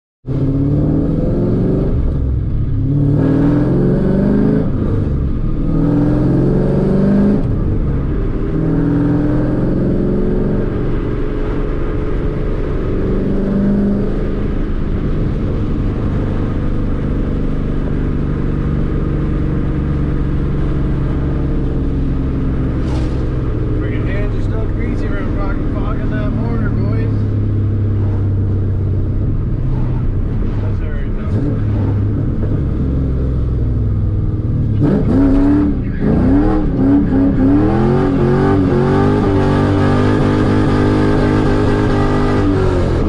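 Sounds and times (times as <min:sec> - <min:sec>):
car engine accelerating: 0:00.2 - 0:43.0.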